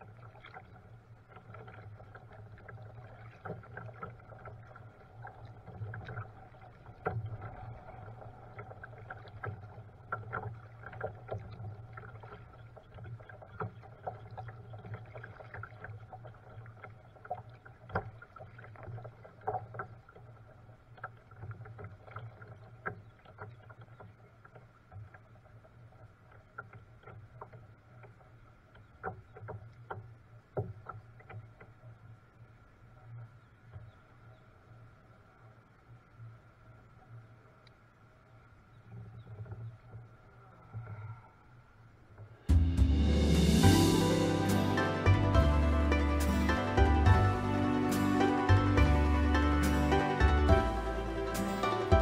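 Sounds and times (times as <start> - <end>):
paddle water splashing: 0.0 - 52.0.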